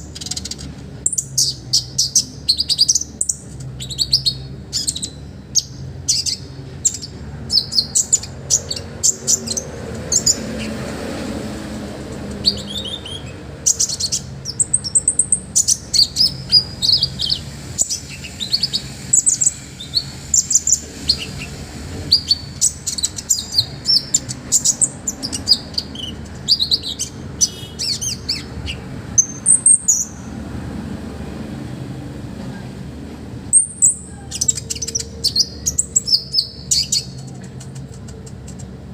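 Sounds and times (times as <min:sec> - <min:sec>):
songbird chirping and trilling: 0:00.0 - 0:30.4, 0:33.4 - 0:38.9.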